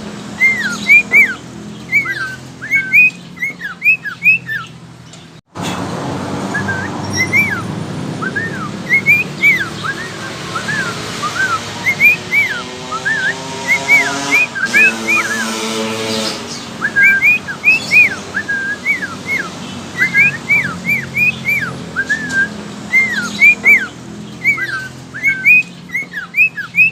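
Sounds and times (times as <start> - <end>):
budgerigar whistling: 0.4 - 4.8, 6.5 - 26.9.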